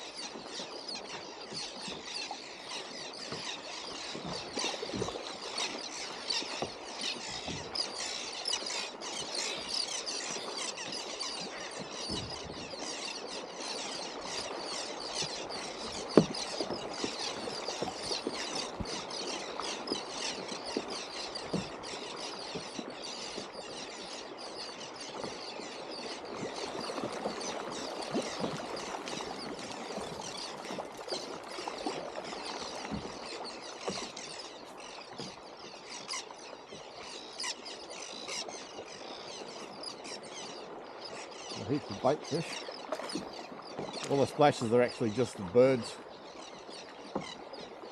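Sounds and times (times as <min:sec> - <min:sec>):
small splashes on water: 0:01.8 - 0:47.9.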